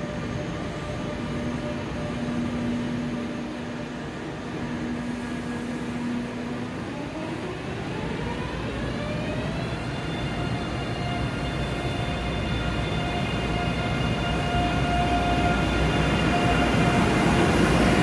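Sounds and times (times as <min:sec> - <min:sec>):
train rumble and hum: 0:00.0 - 0:18.0.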